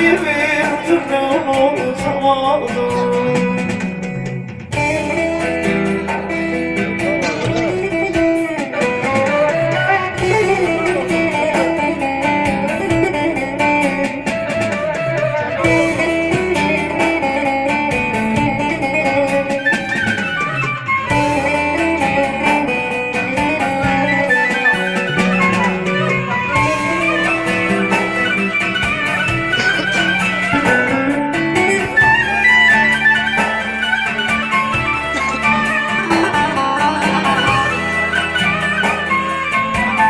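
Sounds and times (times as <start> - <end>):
instrumental melody with accompaniment: 0.0 - 40.0.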